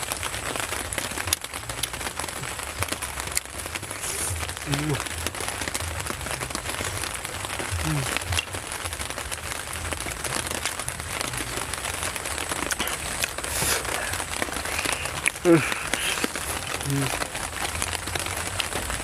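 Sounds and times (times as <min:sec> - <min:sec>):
heavy rain hissing: 0:00.0 - 0:19.0
rain drops ticking: 0:00.0 - 0:19.0.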